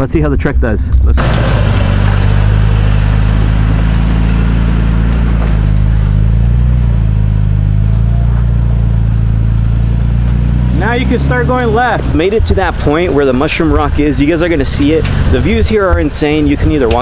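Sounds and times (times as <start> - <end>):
truck engine running under load: 1.2 - 17.0.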